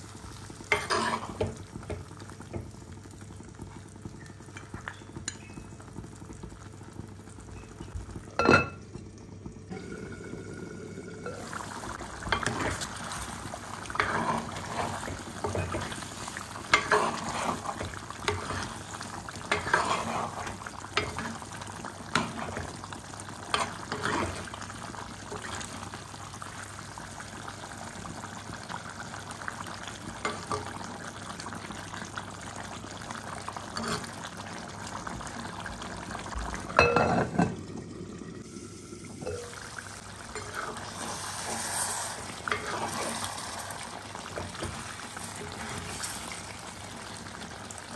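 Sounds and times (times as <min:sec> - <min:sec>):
curry simmering sizzle: 0:00.0 - 0:47.9.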